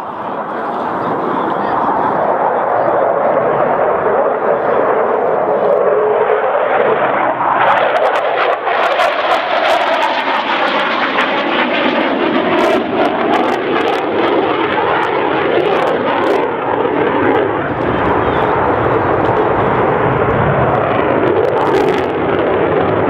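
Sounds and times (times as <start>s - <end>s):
helicopter turbine and rotor noise: 0.0s - 23.0s.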